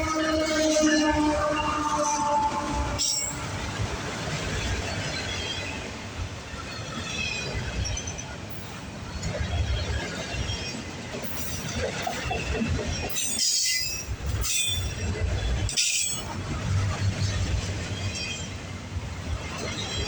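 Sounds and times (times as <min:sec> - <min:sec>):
freight train cars rumbling: 0:00.0 - 0:20.0.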